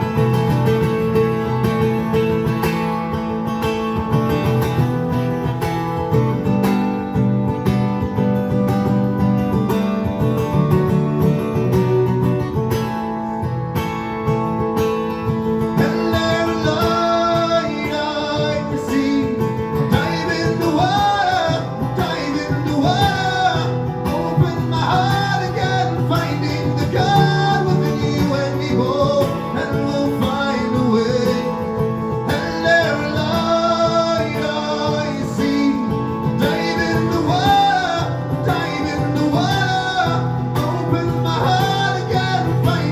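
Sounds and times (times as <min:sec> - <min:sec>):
acoustic guitar chords: 0:00.0 - 0:42.9.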